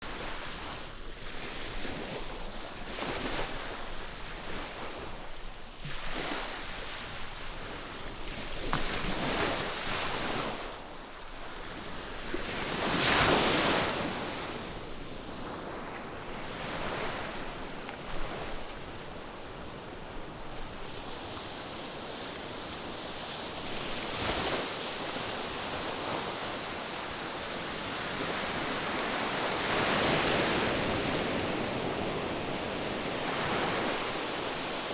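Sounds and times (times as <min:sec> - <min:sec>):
waves breaking on shore: 0:00.0 - 0:34.9.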